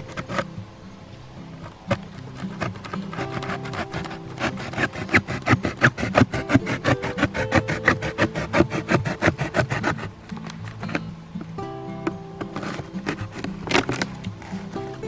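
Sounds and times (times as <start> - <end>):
wood being cut by hand: 0.0 - 0.6, 1.5 - 15.0
background music with held notes: 0.0 - 15.0.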